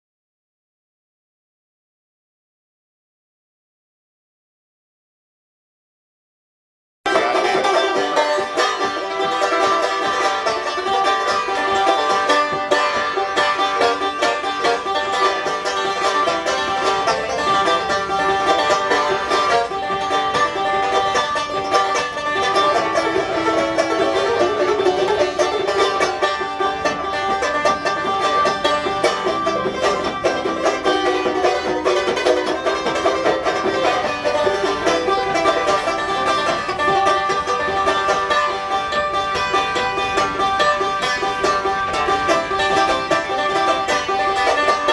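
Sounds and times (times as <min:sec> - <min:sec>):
banjo picking: 0:07.1 - 0:44.9.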